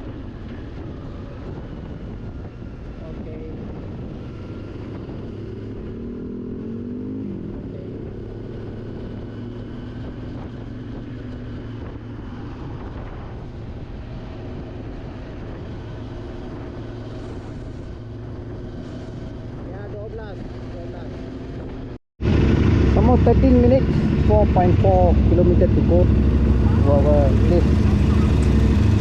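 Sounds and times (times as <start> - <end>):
motorcycle engine cruising: 0.0 - 29.0
road and wind noise: 0.0 - 29.0.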